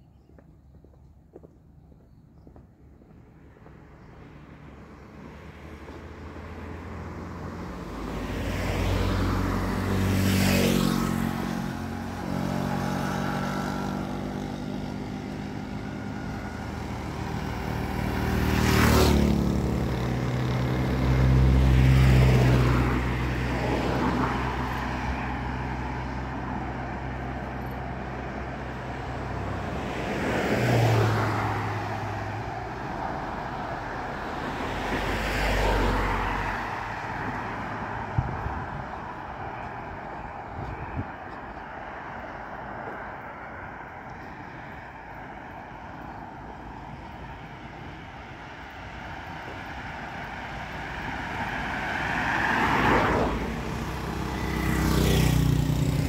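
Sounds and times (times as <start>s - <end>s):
cars passing: 2.4s - 56.0s.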